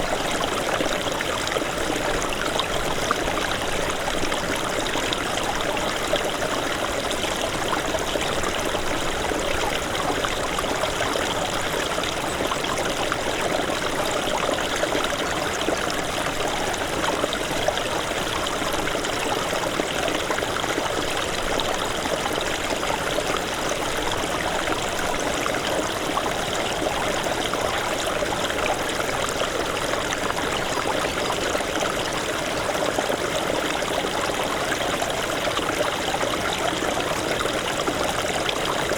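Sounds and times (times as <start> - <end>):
stream burbling over rocks: 0.0 - 38.9.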